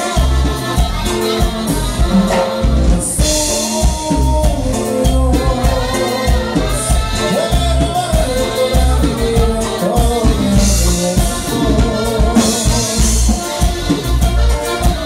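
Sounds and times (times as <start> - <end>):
live dance band playing: 0.0 - 15.0
person singing: 0.0 - 15.0
strong bass beat: 0.0 - 15.0.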